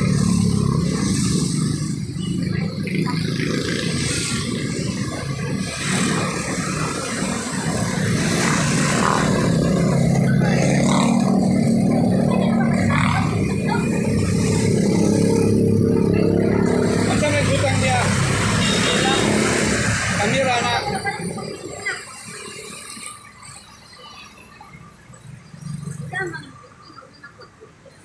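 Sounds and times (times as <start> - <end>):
vehicle engine running: 0.0 - 23.8
road noise: 0.0 - 28.0.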